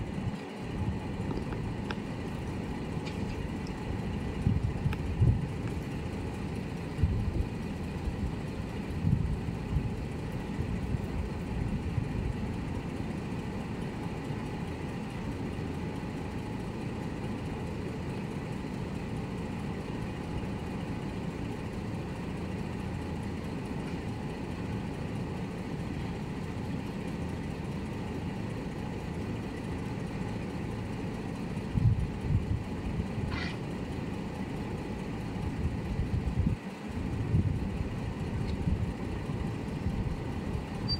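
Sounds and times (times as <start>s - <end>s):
low engine rumble: 0.0s - 40.9s.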